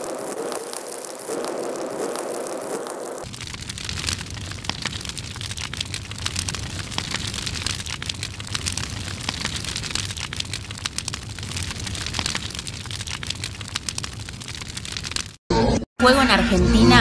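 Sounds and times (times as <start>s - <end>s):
fire crackling: 0.0s - 15.4s.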